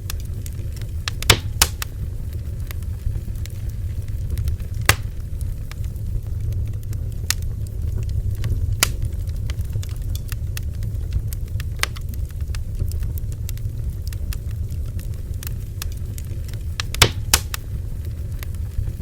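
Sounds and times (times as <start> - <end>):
bonfire roaring: 0.0 - 19.0
burning wood crackling and popping: 0.0 - 19.0.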